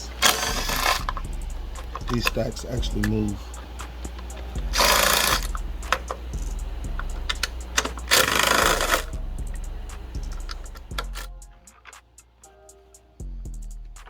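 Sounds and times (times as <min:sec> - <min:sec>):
rapid mechanical ticking: 0:00.0 - 0:12.4.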